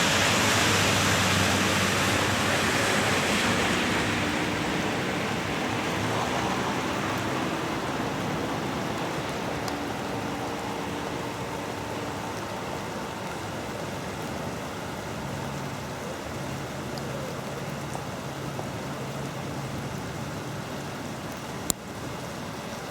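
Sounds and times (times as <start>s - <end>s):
heavy rain: 0.0s - 22.9s
rushing flood water: 0.0s - 22.9s.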